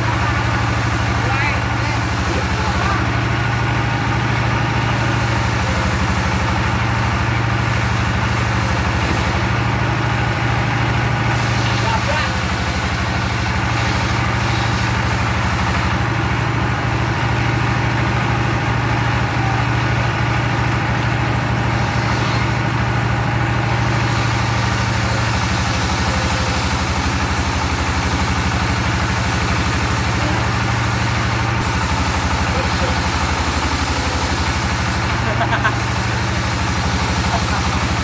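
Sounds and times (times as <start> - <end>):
sawmill engine running: 0.0 - 38.0.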